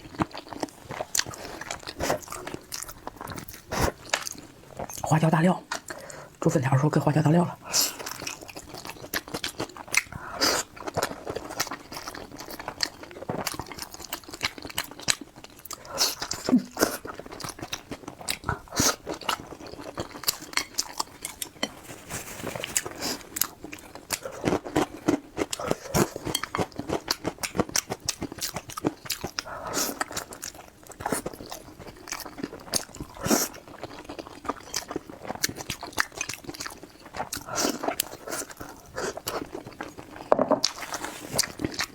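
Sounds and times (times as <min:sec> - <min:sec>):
person chewing crunchy food: 0:00.0 - 0:05.0, 0:07.6 - 0:41.9.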